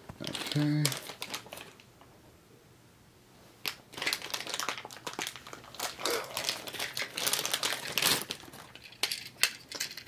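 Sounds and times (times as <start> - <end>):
plastic packaging crinkling: 0.1 - 1.9, 3.7 - 10.0.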